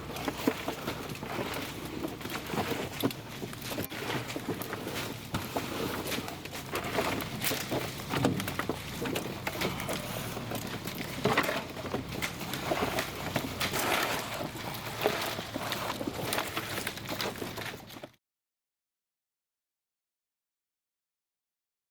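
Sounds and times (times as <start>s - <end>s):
clicks knocks and rustling: 0.0s - 18.2s.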